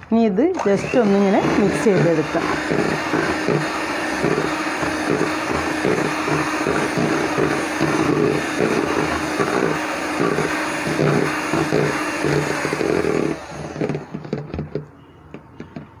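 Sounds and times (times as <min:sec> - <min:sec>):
electric hand mixer running: 0:00.5 - 0:14.9.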